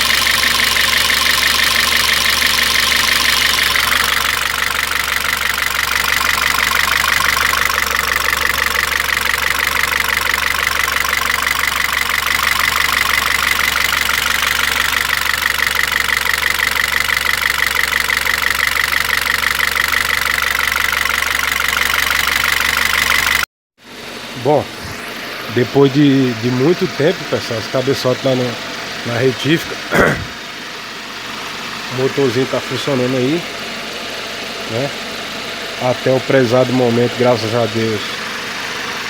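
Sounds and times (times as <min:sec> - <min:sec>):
car engine idling with ticking: 0:00.0 - 0:39.0.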